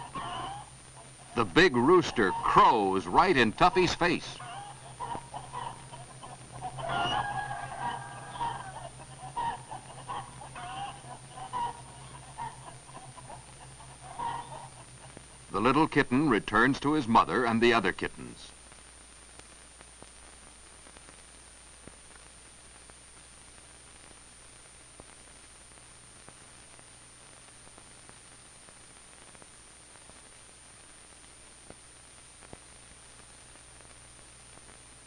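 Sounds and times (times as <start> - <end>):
film soundtrack hiss and hum: 0.0 - 35.0.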